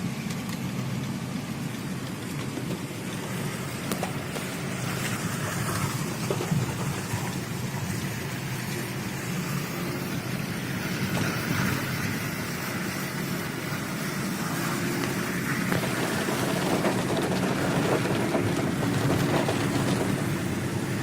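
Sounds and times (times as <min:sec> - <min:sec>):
rain falling: 0:00.0 - 0:21.0
vehicle running noise: 0:00.0 - 0:21.0.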